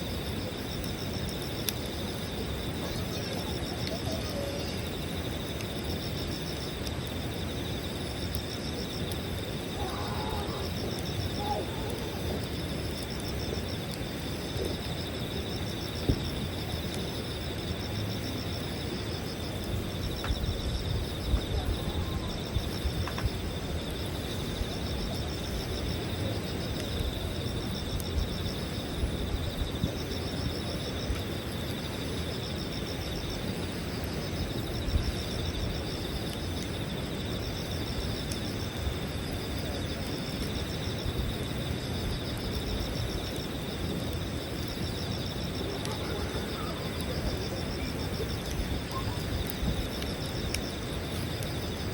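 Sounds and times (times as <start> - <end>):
campfire crackling and popping: 0.0 - 51.9
insects chirping: 0.0 - 51.9.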